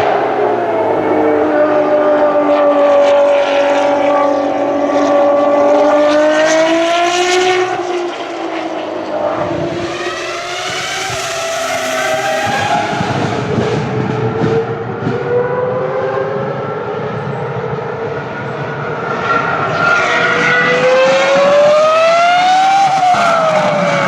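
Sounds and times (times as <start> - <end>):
race car engine at high revs: 0.0 - 24.0.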